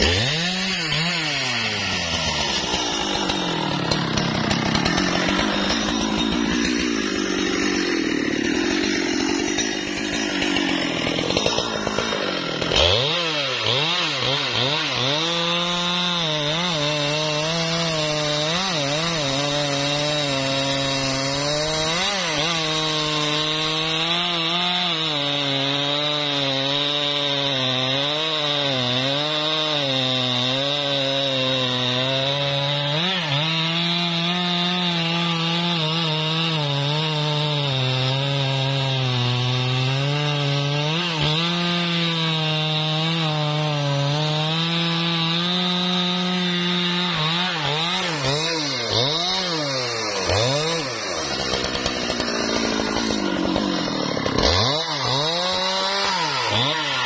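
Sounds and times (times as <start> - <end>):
chainsaw cutting wood: 0.0 - 57.0
chainsaw engine revving: 0.0 - 57.0.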